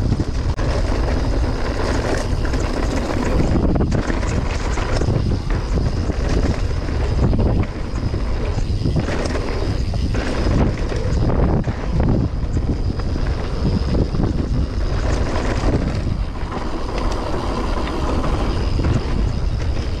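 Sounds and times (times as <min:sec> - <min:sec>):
bike knocks and rattles: 0:00.0 - 0:20.0
tyres rumbling on dirt and rock: 0:00.0 - 0:20.0
wind buffeting microphone: 0:00.0 - 0:20.0.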